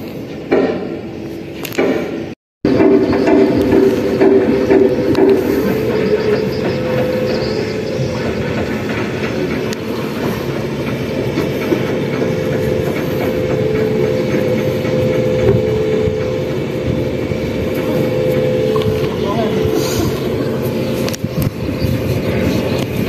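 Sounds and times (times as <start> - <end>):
diesel boat engine droning: 0.0 - 23.0.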